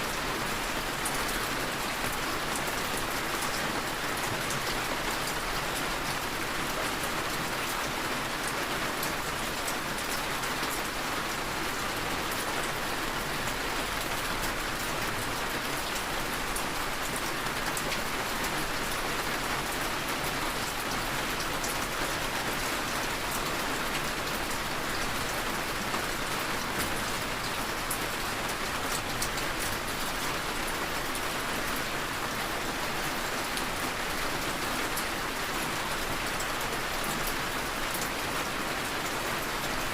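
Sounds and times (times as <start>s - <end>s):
raindrops pattering on surfaces: 0.0s - 39.9s.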